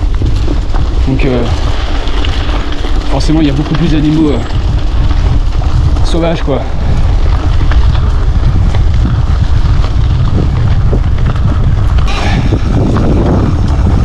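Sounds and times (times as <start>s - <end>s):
bike clattering over rocks: 0.0s - 14.0s
wind rumble on microphone: 0.0s - 14.0s.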